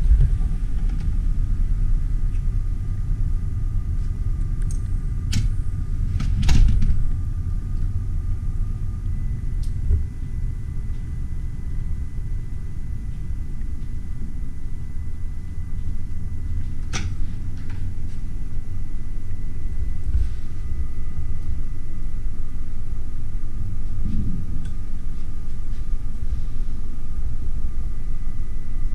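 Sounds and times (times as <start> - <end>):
faint steady hum: 0.0 - 28.9
low ship interior rumble: 0.0 - 28.9.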